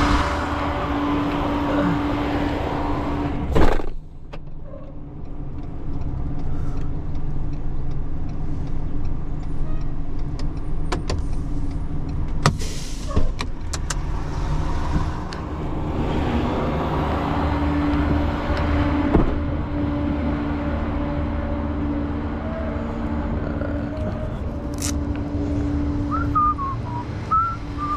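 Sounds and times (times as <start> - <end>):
truck engine humming: 0.0 - 4.3, 5.0 - 27.9.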